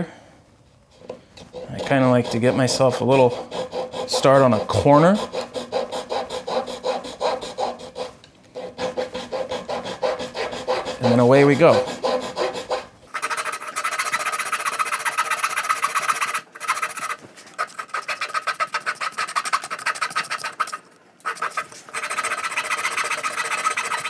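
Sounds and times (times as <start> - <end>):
hand saw rasping through wood: 1.5 - 24.0.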